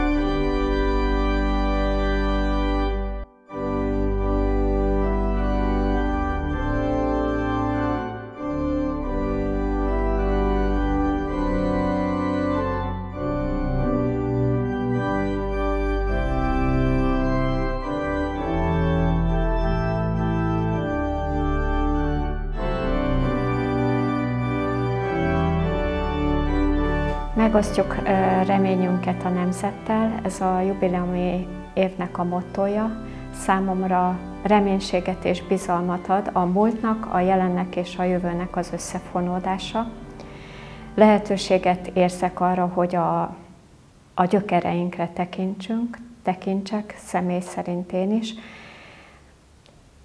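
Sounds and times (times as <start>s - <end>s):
organ playing sustained chords: 0.0s - 43.5s.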